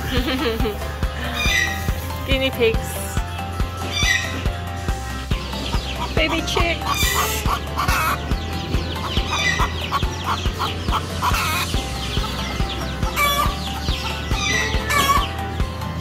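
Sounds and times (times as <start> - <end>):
baby chicks peeping: 0.0 - 16.0
background music with steady beat: 0.0 - 16.0.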